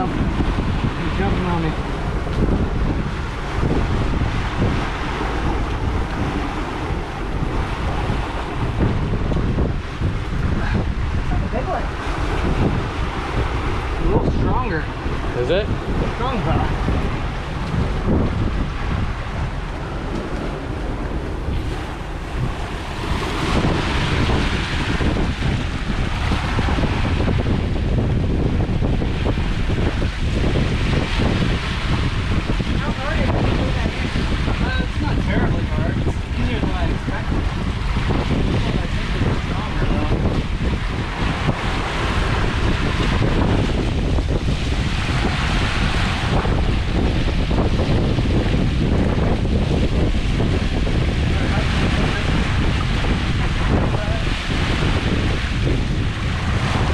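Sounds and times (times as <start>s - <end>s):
boat wake rushing: 0.0s - 56.9s
sea waves: 0.0s - 56.9s
wind buffeting microphone: 0.0s - 56.9s.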